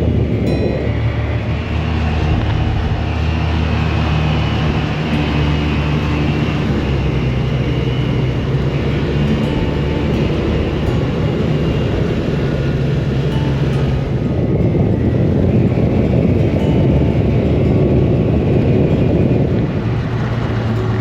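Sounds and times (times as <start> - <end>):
utility vehicle engine drone: 0.0 - 21.0.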